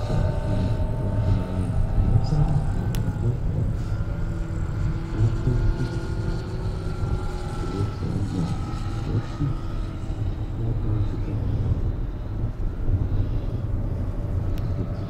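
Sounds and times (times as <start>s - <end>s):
low rumble: 0.0s - 15.0s
model plane motor droning: 0.0s - 15.0s.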